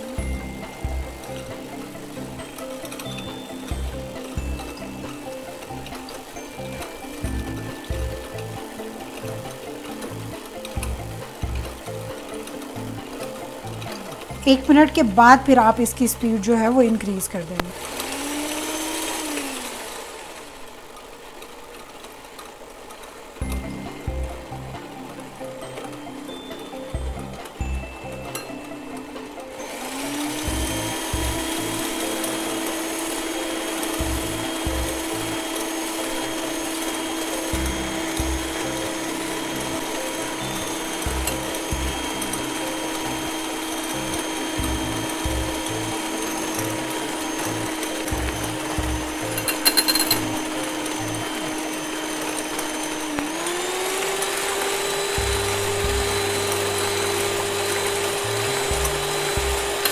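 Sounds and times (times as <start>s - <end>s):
electric hand mixer running: 0.0s - 59.9s.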